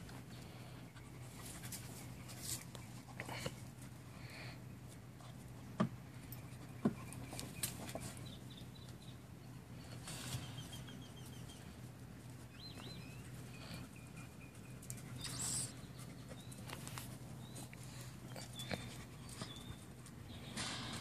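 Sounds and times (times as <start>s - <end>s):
puppy paws on dry dirt: 0.0s - 21.0s
small birds chirping: 0.0s - 21.0s
steady low hum: 0.0s - 21.0s.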